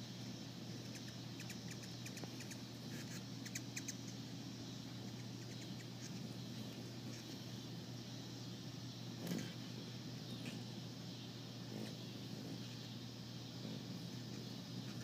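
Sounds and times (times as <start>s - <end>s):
hummingbird chip notes: 0.0s - 15.0s
steady low hum: 0.0s - 15.0s.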